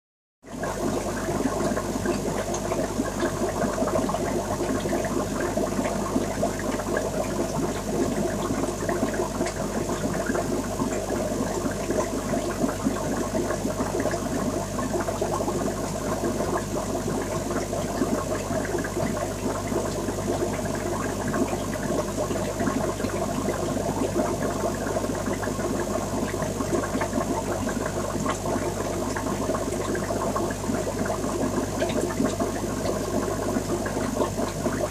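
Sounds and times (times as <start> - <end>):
aquarium water bubbling: 0.4 - 34.9.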